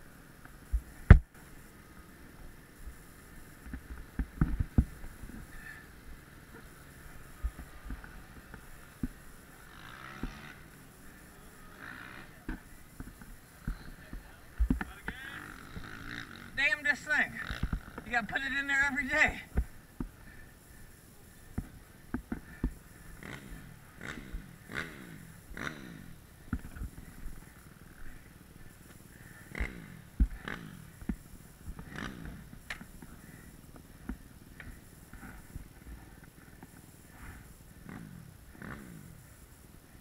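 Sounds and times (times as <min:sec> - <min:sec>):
motocross bike engine revving: 0:00.6 - 0:40.0.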